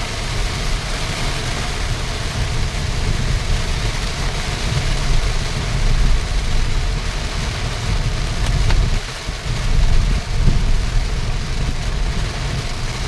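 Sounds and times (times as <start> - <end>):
steady rain falling: 0.0 - 13.0
strong low rumble: 0.0 - 13.0.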